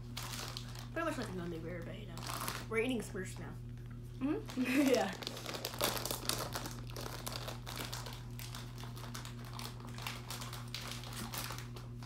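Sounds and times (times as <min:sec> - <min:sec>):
plastic bag crinkling: 0:00.0 - 0:02.8, 0:04.4 - 0:12.0.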